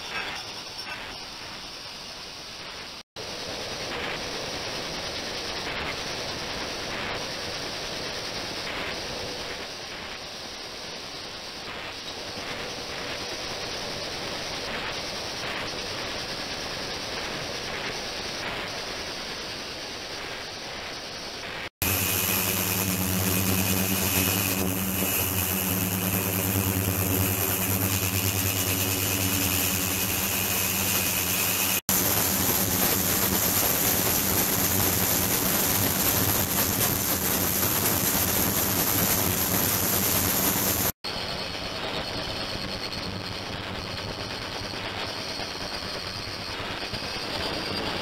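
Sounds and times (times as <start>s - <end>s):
ultrasonic cleaner hiss: 0.0s - 47.8s.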